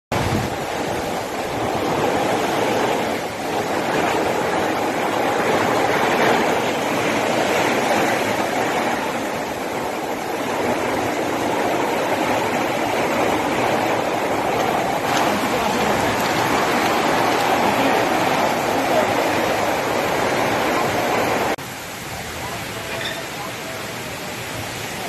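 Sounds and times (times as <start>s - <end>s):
heavy rain: 0.1s - 25.0s.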